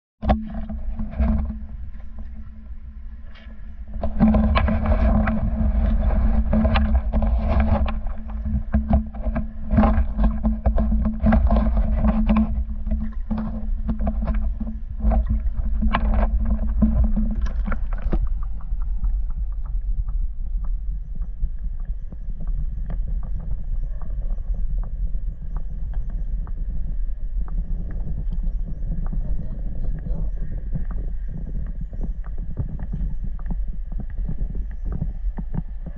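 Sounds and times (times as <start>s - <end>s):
low rumble: 0.2s - 35.9s
steady low hum: 0.2s - 35.9s
water lapping and splashing: 0.3s - 35.9s.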